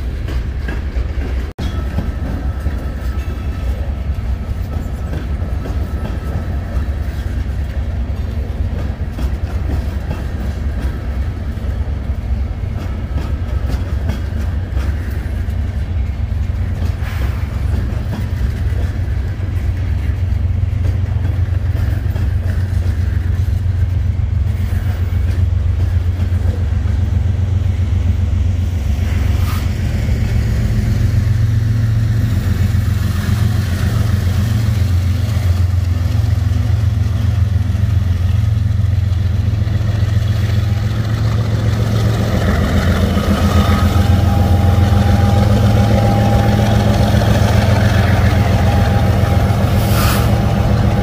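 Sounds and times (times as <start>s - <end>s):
diesel locomotive engine drone: 0.0s - 51.0s
freight train passing: 0.0s - 51.0s.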